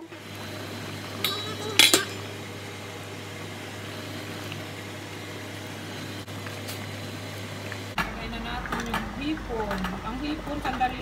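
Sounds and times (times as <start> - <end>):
kitchen appliance drone: 0.0 - 11.0.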